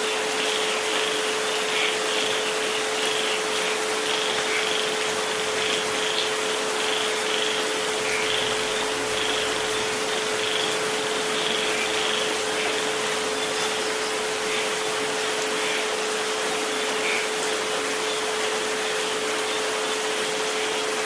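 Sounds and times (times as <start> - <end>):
continuous pure tone: 0.0 - 19.6
steady rain hiss: 0.0 - 21.0.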